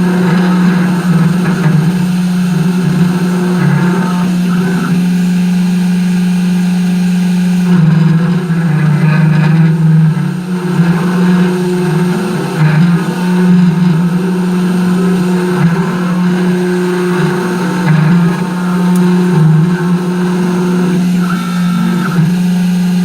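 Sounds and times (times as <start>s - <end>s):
machine spindle motor humming: 0.0s - 23.0s.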